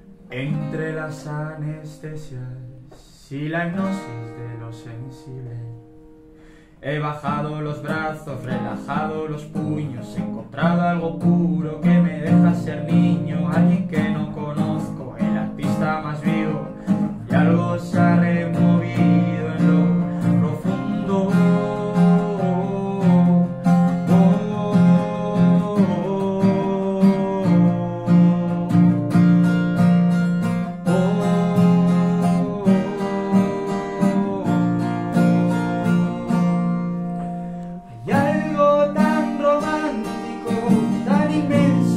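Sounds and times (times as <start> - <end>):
man singing: 0.0 - 5.9, 6.7 - 41.9
acoustic guitar strumming: 0.0 - 41.9.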